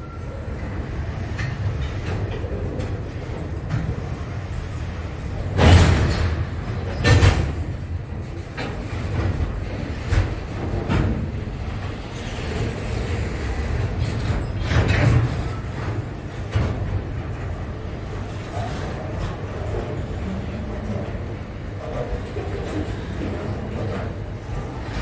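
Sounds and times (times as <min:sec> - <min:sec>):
train wagons clanking: 0:00.0 - 0:25.0
train wagons rumbling past: 0:00.0 - 0:25.0.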